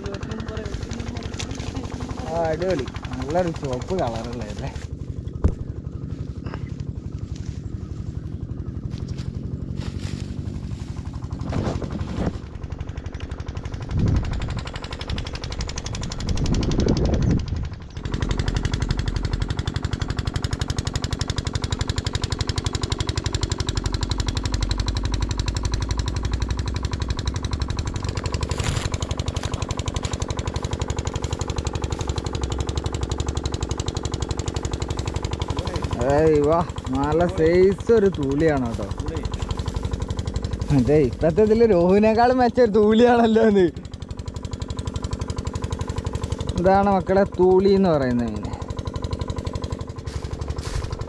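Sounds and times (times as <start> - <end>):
small engine running: 0.0 - 51.0.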